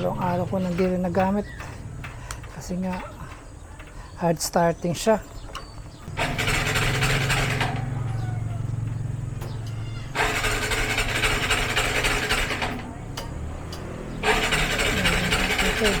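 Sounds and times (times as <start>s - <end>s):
motorcycle engine cranking: 0.0s - 16.0s.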